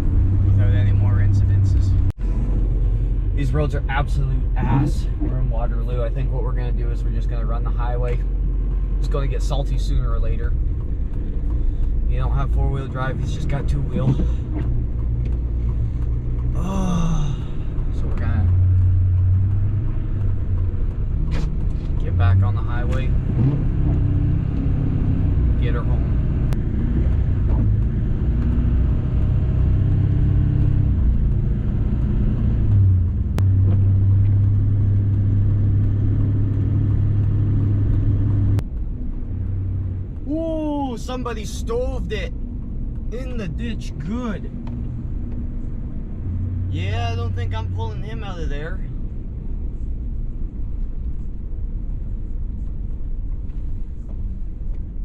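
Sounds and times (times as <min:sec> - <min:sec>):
truck engine drone: 0:00.0 - 0:06.8, 0:08.2 - 0:54.7
road noise: 0:00.0 - 0:55.0.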